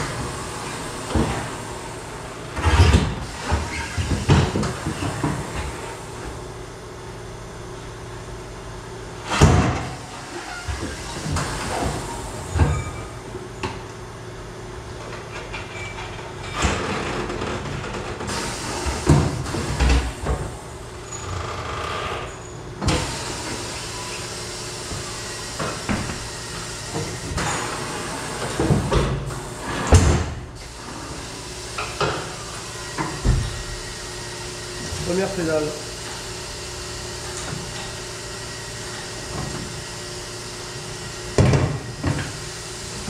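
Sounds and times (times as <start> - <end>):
steady background hum: 0.0 - 43.0.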